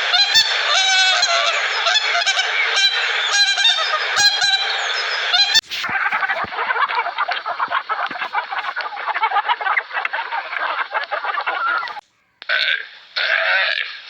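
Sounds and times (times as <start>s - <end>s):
geese honking: 0.0s - 12.8s.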